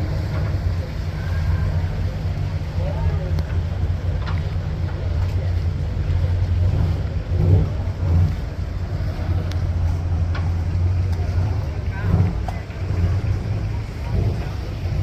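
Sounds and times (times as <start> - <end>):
boat engine idling: 0.0 - 15.0
faint voices: 0.0 - 15.0.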